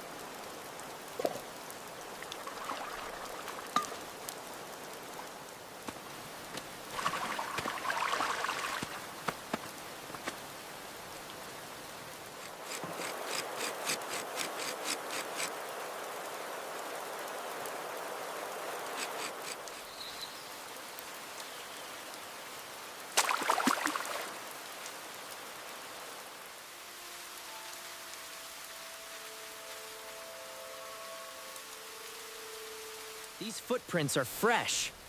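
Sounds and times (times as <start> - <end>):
rain hiss: 0.0 - 35.0.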